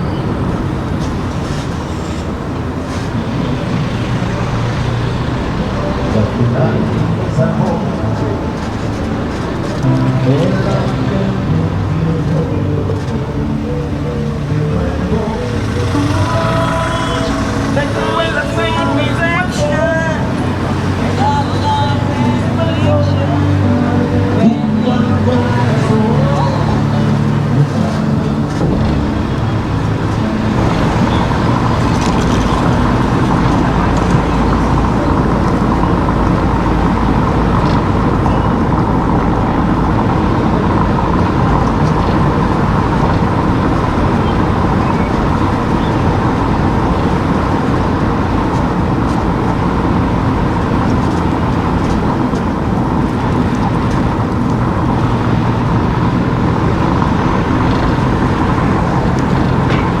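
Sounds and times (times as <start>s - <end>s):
car engine and tyre noise: 0.0s - 60.0s.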